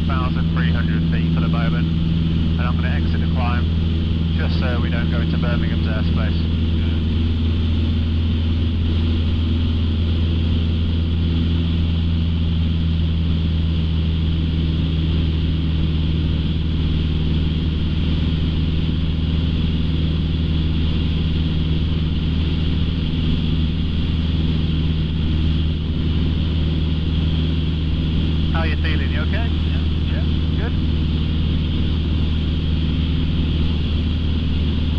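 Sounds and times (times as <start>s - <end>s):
aircraft engine and propeller droning: 0.0s - 34.9s.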